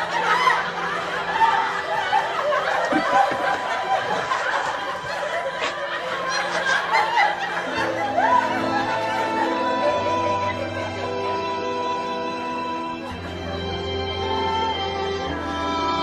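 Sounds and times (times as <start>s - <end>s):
audience laughing and murmuring: 0.0s - 16.0s
soft music: 0.0s - 16.0s.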